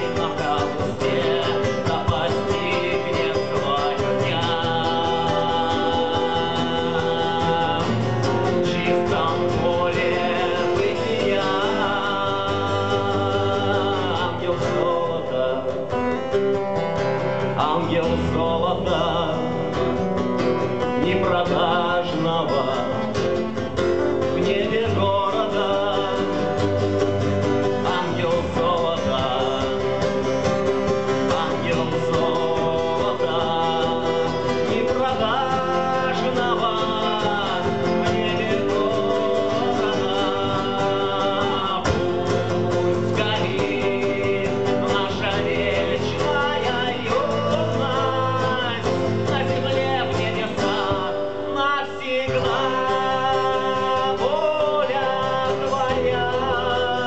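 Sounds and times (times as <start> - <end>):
acoustic guitars strummed: 0.0 - 57.0
man singing: 0.0 - 57.0.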